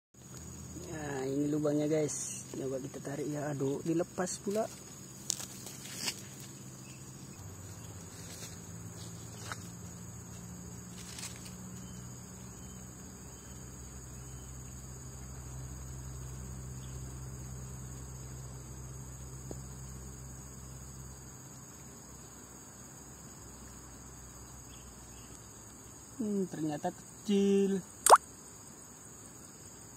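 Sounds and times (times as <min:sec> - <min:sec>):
high-pitched insect drone: 0:00.2 - 0:29.9.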